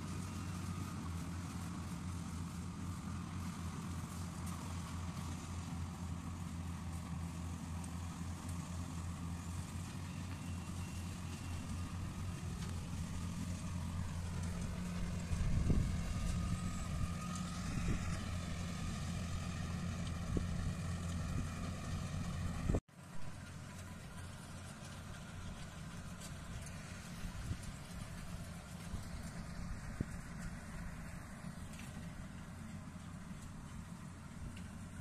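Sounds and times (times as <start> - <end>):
distant harvester engine running: 0.0 - 35.0.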